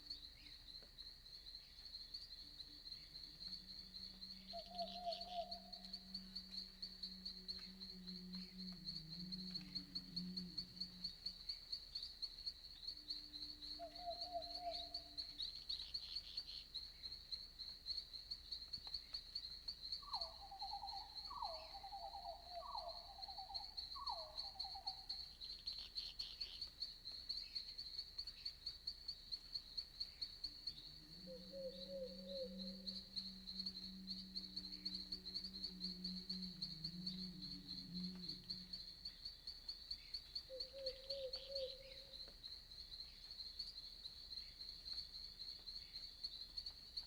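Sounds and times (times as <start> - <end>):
crickets chirping: 0.0 - 47.0
faint night animal calls: 0.0 - 47.0.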